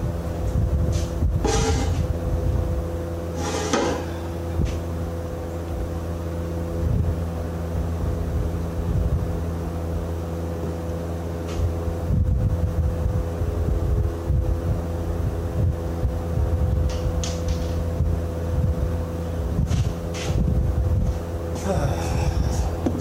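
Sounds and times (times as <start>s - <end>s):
machine humming steadily: 0.0s - 23.0s.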